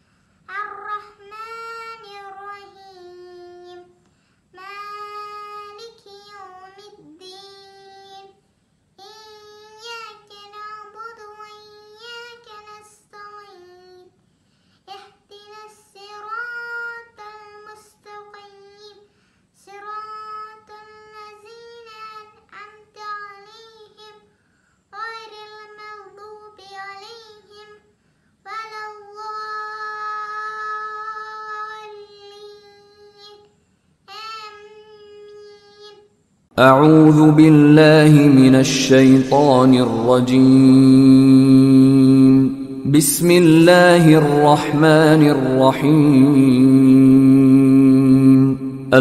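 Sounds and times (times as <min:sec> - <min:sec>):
girl chanting recitation: 0:00.5 - 0:08.4, 0:09.0 - 0:14.2, 0:14.8 - 0:49.0.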